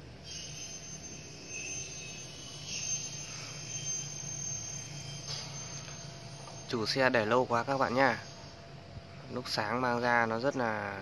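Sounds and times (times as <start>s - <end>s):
high-pitched mechanical whine: 0.0s - 11.0s
low hum: 0.0s - 11.0s.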